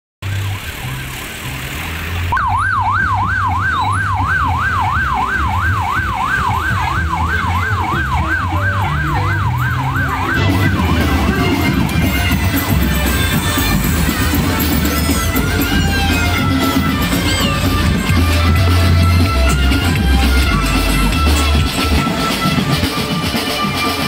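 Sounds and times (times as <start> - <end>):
deep bass beat: 2.3 - 23.9
yelping siren: 2.3 - 24.0.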